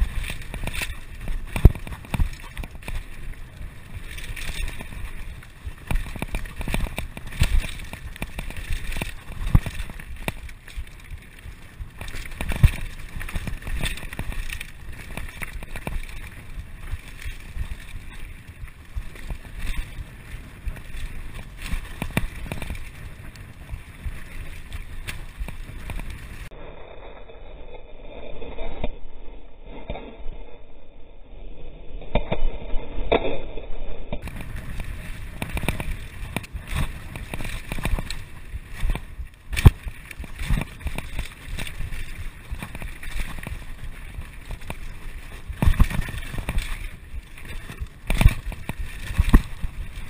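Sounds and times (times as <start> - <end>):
bike rattling over bumps: 0.0 - 26.5, 34.2 - 50.0
wind on microphone: 0.0 - 50.0.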